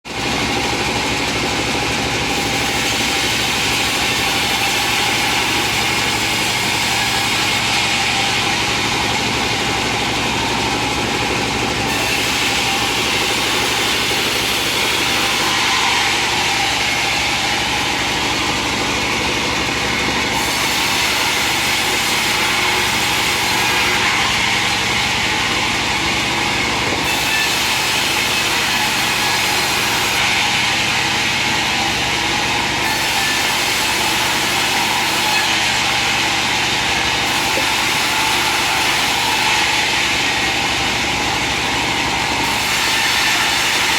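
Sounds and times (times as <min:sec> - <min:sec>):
wood-cutting machine droning: 0:00.0 - 0:43.9.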